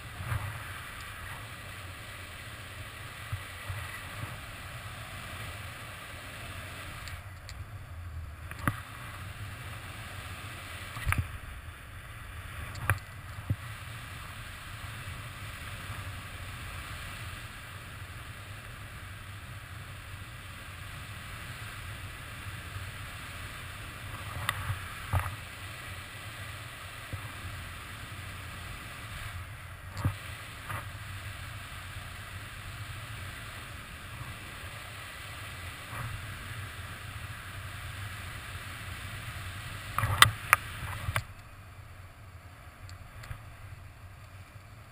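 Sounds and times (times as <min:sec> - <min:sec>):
wind rushing over microphone: 0:00.0 - 0:41.3.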